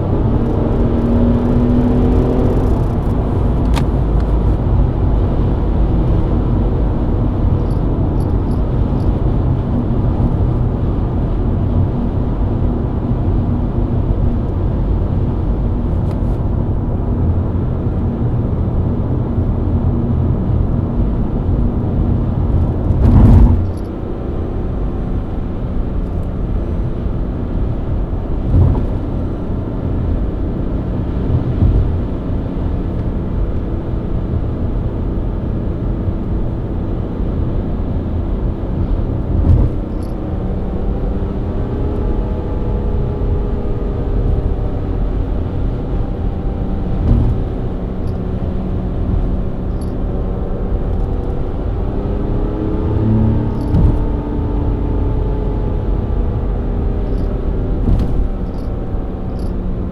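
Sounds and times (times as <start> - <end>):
car engine cruising: 0.0 - 59.9
road noise: 0.0 - 59.9.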